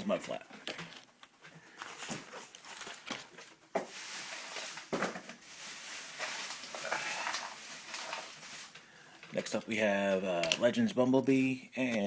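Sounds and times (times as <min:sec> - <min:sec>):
steady rustling: 0:00.1 - 0:10.3.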